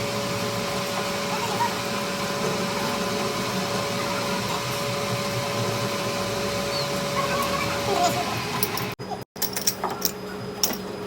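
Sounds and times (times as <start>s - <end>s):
machine humming: 0.0s - 9.2s.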